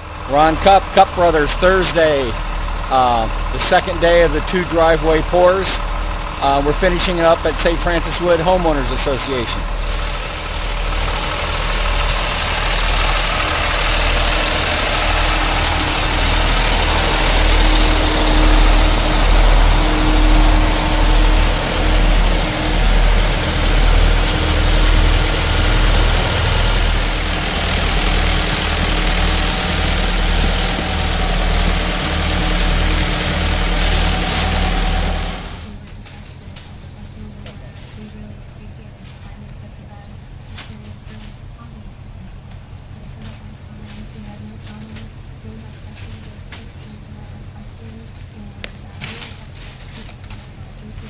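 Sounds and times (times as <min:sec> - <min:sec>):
loud engine idling: 0:00.0 - 0:51.0.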